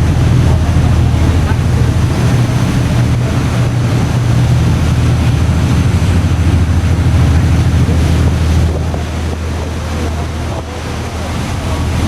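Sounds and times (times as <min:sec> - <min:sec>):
ferry engine drone: 0:00.0 - 0:12.0
rushing water and air: 0:00.0 - 0:12.0.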